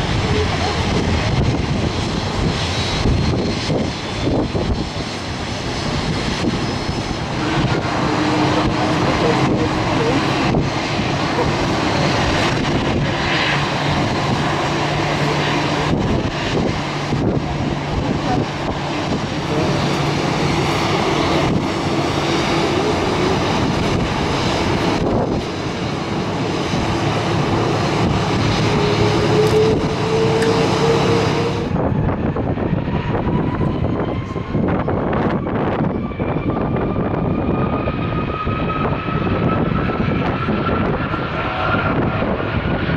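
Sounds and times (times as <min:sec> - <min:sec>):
jet engines whining: 0:00.0 - 0:42.9
wind buffeting microphone: 0:00.0 - 0:42.9.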